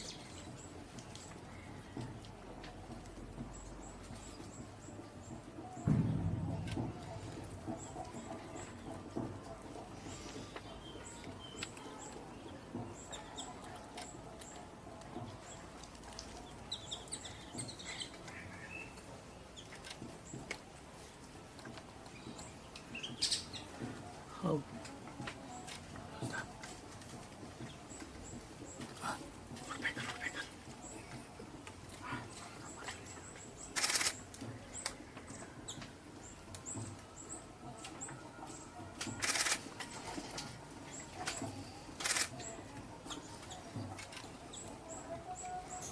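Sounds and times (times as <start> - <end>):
birds chirping: 0.0 - 24.7, 25.4 - 45.9
low steady background noise: 0.0 - 45.9.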